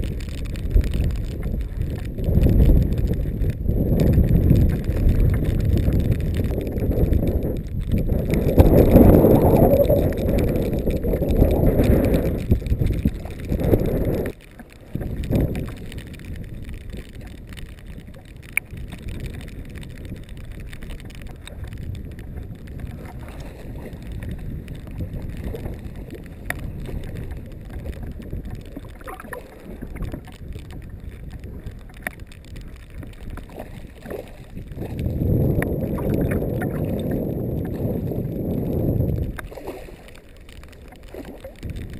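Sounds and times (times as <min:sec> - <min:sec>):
wind buffeting microphone: 0:00.0 - 0:41.9
water lapping: 0:04.2 - 0:41.9.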